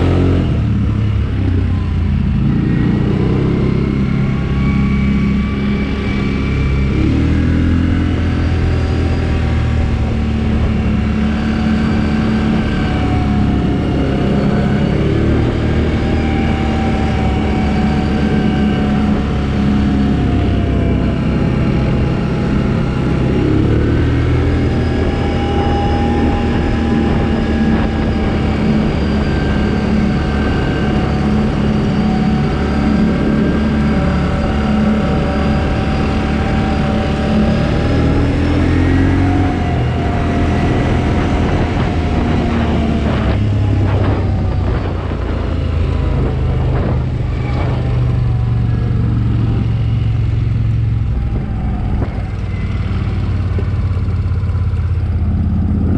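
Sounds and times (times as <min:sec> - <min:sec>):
quad bike engine running: 0:00.0 - 0:55.9.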